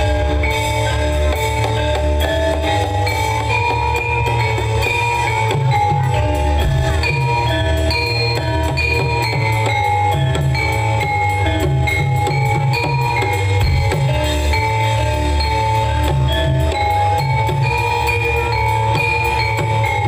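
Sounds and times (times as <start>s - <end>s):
drums: 0.0s - 20.0s
metallophones playing melody: 0.0s - 20.0s.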